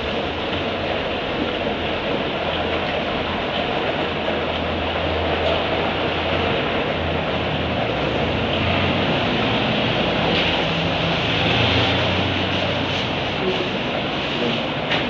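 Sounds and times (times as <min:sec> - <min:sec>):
machines rumbling and hissing: 0:00.0 - 0:15.0.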